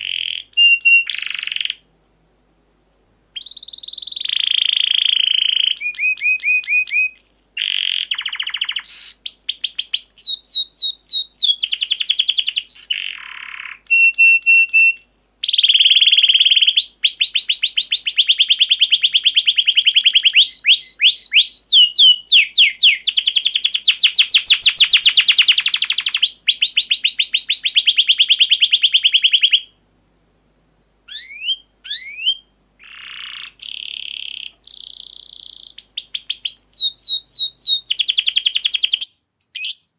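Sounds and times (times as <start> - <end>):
bird chirps: 0.0 - 1.8, 3.4 - 29.8, 31.1 - 39.9
canary singing trills: 0.0 - 1.8, 3.4 - 29.8, 31.1 - 39.9.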